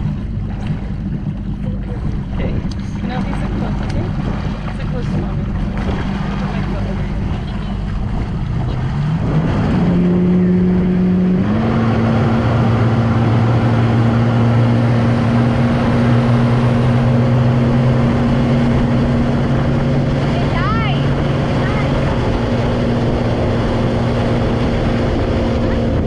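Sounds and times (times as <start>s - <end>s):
motorboat engine speeding up: 0.0s - 26.0s.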